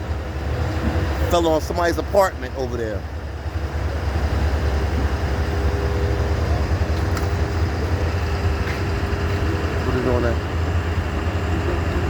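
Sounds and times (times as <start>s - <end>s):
heavy vehicle engines idling: 0.0s - 12.0s.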